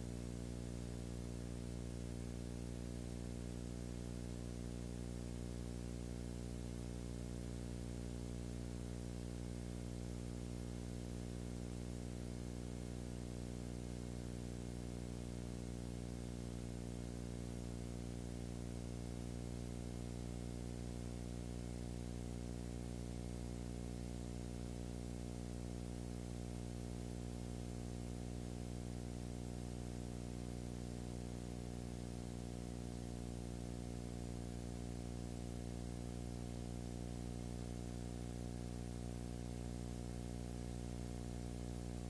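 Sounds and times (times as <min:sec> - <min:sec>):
low hum with overtones: 0:00.0 - 0:42.0.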